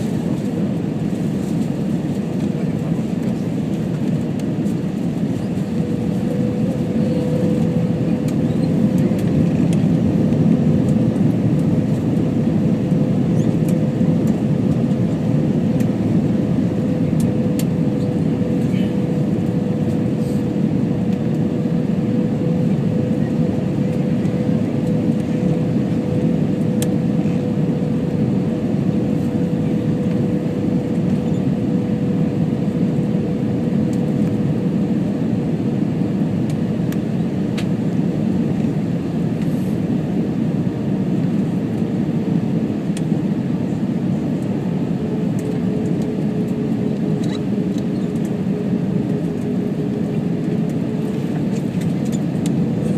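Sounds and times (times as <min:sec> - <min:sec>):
aircraft cabin engine drone: 0:00.0 - 0:52.9.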